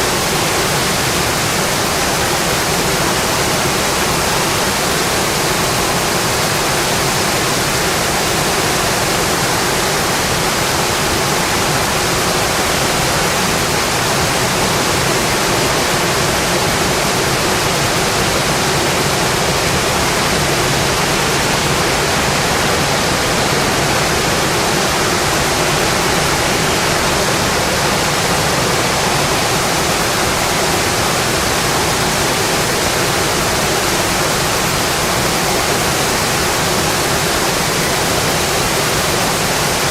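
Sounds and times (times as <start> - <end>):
rain on a windowpane: 0.0 - 39.9.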